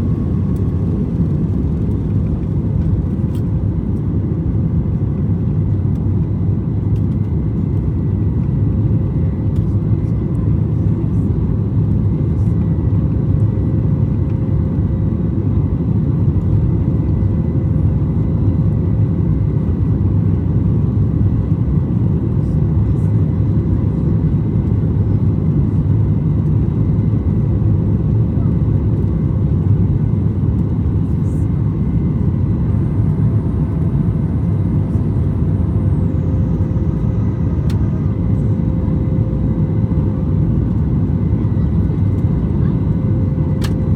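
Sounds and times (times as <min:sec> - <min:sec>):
jet engine rumble in cabin: 0:00.0 - 0:43.9.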